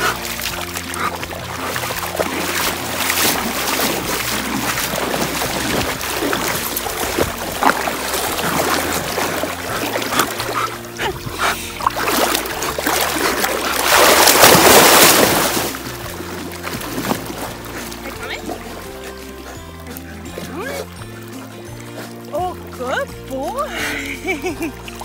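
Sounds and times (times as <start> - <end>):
background music: 0.0 - 25.0
water splashing and sloshing: 0.0 - 25.0.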